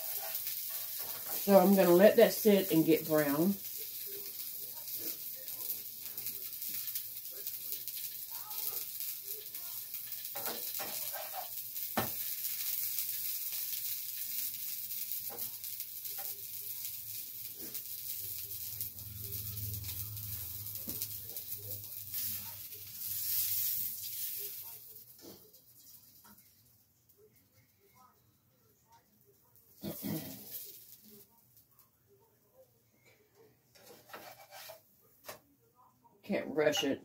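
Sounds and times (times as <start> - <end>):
french toast sizzling in pan: 0.0 - 28.2, 28.9 - 31.9, 33.8 - 35.0.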